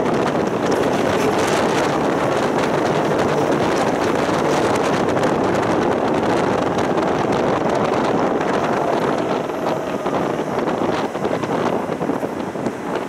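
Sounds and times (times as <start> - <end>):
tram wheels rumbling on rails: 0.0 - 13.0
wind noise on microphone: 0.0 - 13.0.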